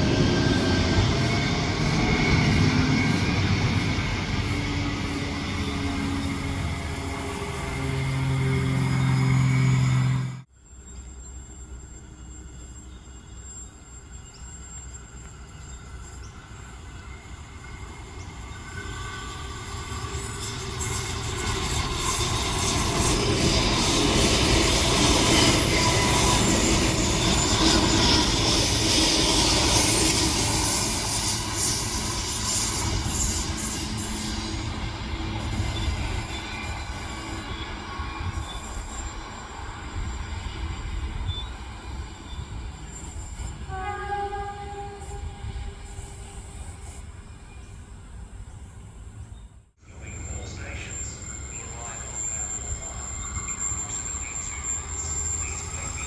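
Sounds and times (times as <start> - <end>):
train running on rails: 0.0 - 56.0.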